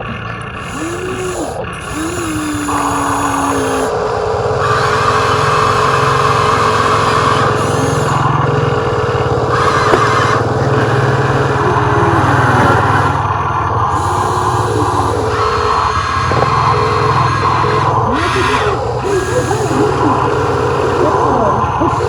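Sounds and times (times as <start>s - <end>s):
toy machine motor running: 0.0s - 22.0s.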